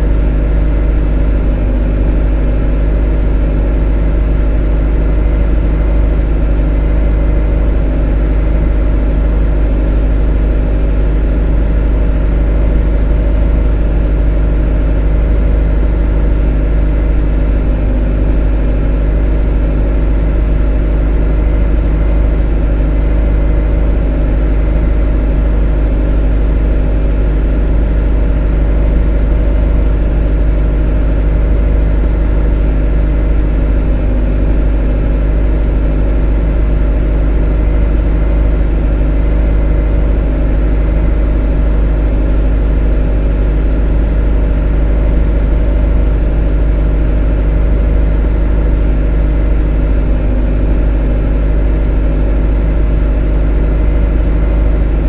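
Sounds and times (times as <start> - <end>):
motor humming steadily: 0.0 - 55.0.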